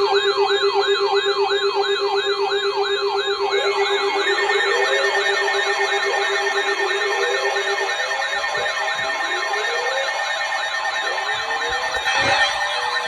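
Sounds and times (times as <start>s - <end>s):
electronic siren yelping: 0.0s - 13.0s
siren wail rising: 0.0s - 13.0s.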